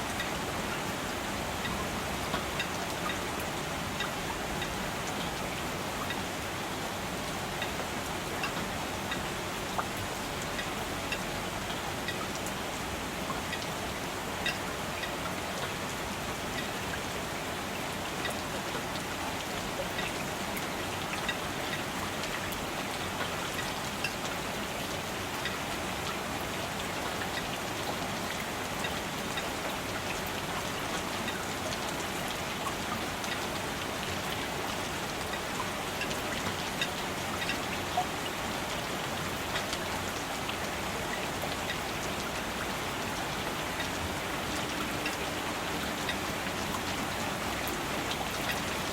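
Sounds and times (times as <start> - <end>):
raindrops ticking on a surface: 0.0 - 48.9.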